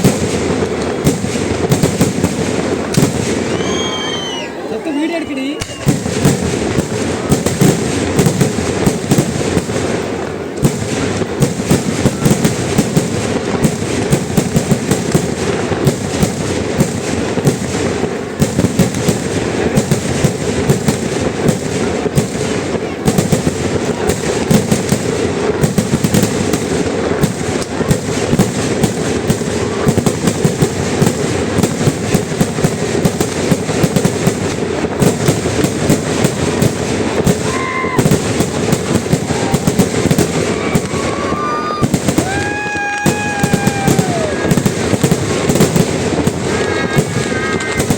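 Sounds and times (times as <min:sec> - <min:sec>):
firecracker bangs and explosions: 0:00.0 - 0:47.9.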